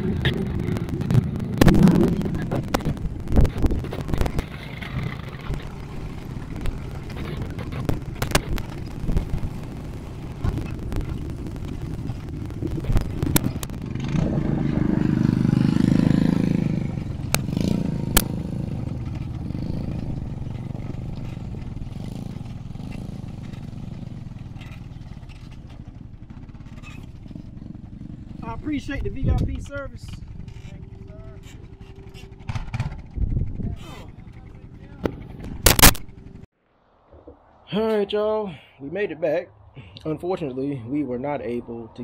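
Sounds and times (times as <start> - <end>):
atv engine running: 0.0 - 36.5.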